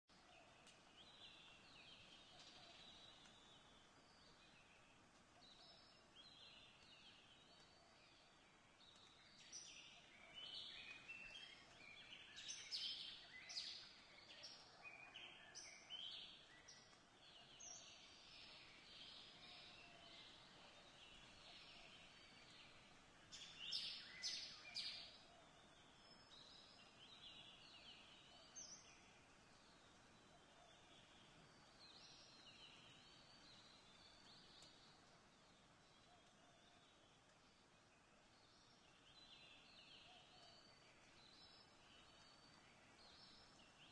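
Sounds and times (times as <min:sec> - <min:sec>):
birds chirping and trilling: 0:00.1 - 0:43.9
low background hiss: 0:00.1 - 0:43.9.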